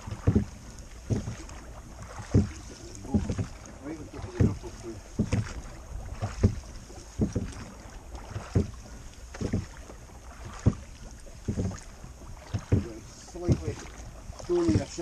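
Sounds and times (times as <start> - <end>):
oars knocking and splashing: 0.0 - 15.0.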